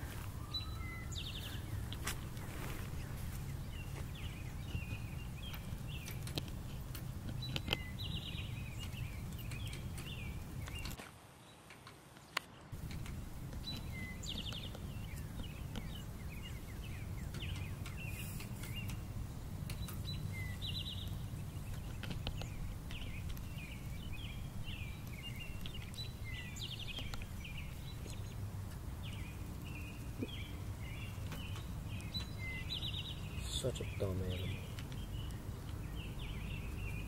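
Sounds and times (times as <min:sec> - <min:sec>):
steady low rumble: 0:00.0 - 0:11.0, 0:12.8 - 0:37.0
songbird chirping and trilling: 0:00.0 - 0:37.0.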